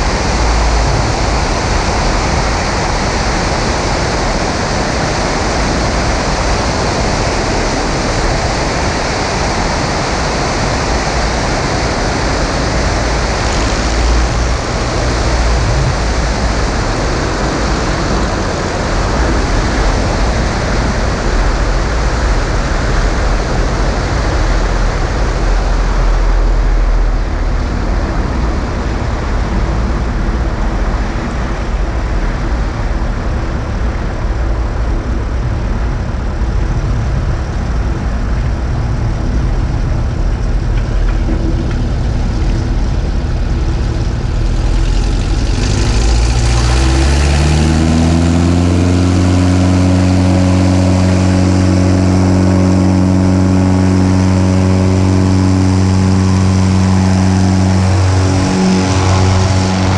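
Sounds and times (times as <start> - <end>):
aircraft engine and propeller droning: 0.0 - 59.9
low buffeting rumble: 0.0 - 59.9
wind rushing over camera: 0.0 - 59.9.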